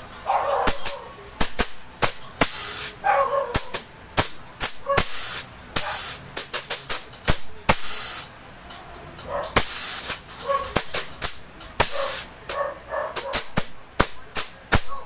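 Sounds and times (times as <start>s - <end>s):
refrigerant gas hissing bursts: 0.0s - 8.6s, 9.4s - 15.0s.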